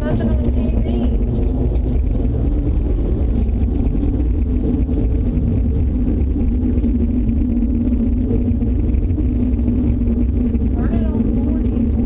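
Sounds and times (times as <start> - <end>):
deep rumbling drone with hum: 0.0 - 12.0.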